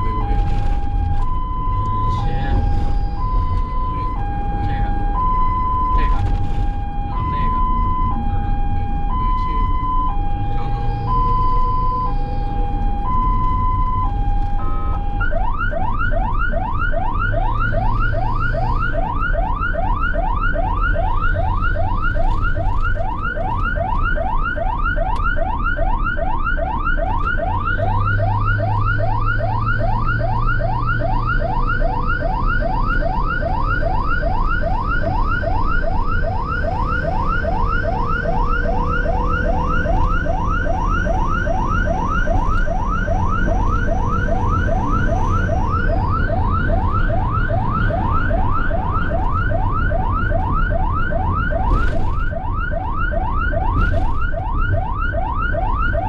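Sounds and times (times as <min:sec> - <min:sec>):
ambulance siren: 0:00.0 - 0:56.0
vehicle engine rumble: 0:00.0 - 0:56.0.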